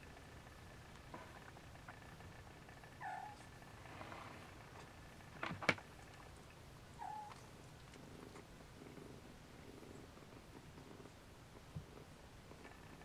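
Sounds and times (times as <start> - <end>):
faint cat purring: 0.0 - 13.0.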